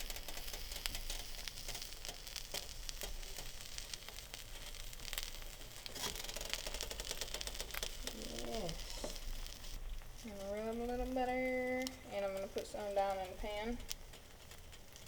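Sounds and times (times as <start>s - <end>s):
pops and crackles: 0.0s - 15.0s
sandwich sizzling in a pan: 0.0s - 15.0s.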